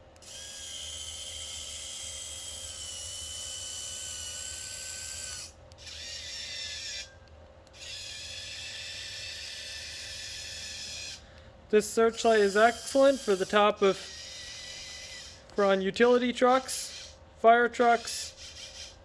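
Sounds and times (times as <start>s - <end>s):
electric motor whirring: 0.0s - 19.0s.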